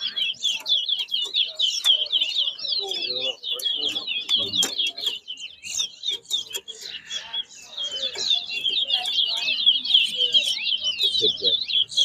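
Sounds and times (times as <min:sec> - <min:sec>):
finch twittering song: 0:00.0 - 0:12.0.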